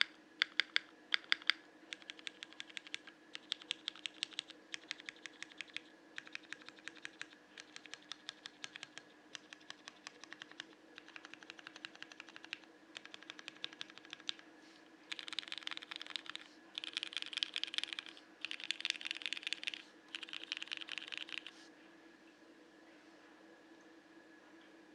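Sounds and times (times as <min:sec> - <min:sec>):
mechanical keyboard typing: 0:00.0 - 0:14.4, 0:15.1 - 0:21.5.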